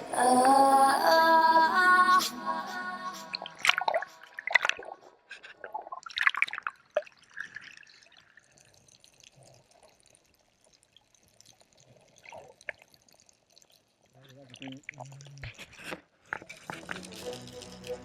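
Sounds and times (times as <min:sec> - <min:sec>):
water splashing and dripping: 0:03.2 - 0:18.0.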